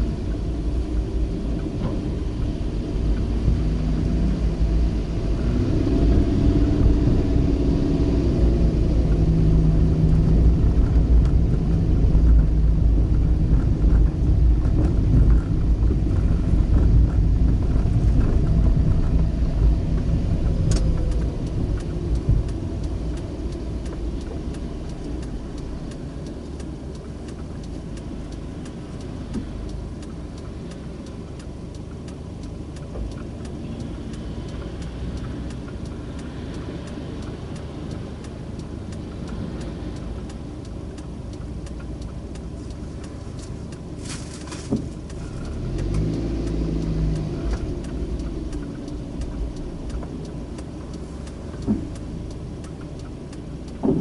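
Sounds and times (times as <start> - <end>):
car engine humming: 0.0 - 54.0.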